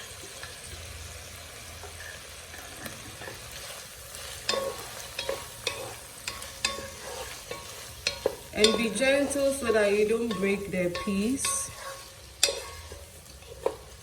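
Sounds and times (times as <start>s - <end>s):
food sizzling in a saucepan: 0.0s - 14.0s
utensil scraping a pan: 1.7s - 14.0s.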